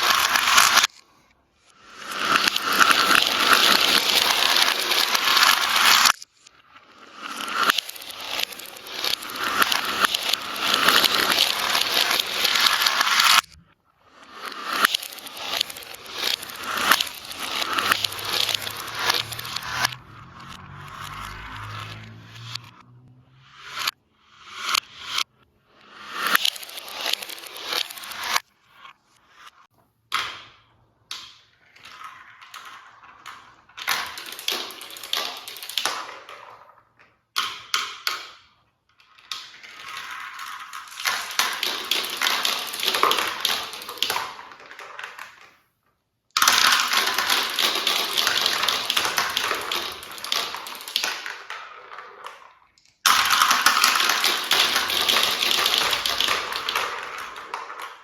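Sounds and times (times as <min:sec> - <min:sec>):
marbles rattling down plastic track: 0:00.0 - 0:01.0, 0:01.7 - 0:45.7, 0:46.4 - 0:58.0.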